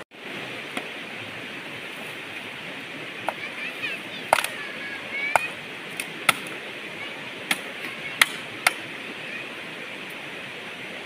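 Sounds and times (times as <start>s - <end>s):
steady rushing noise: 0.1s - 11.0s.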